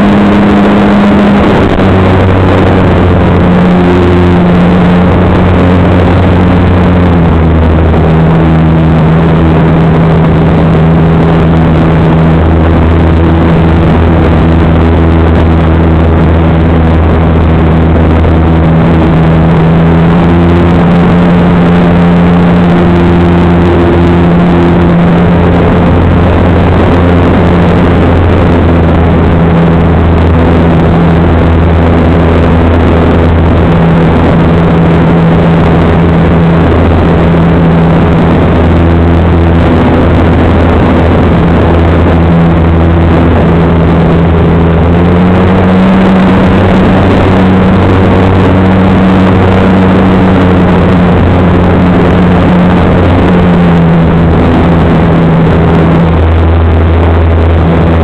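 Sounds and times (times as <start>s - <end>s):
rushing wind: 0.0s - 58.0s.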